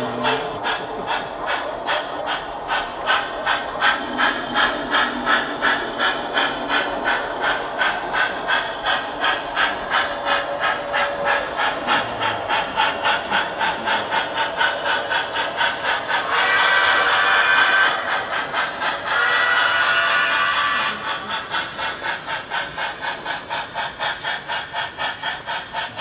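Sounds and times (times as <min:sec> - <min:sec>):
constant hiss: 0:00.0 - 0:26.0
model train rhythmic clatter: 0:00.0 - 0:26.0.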